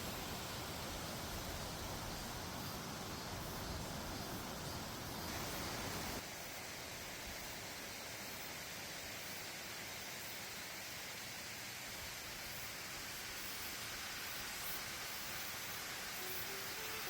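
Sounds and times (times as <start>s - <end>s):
wind hiss: 0.0s - 17.0s.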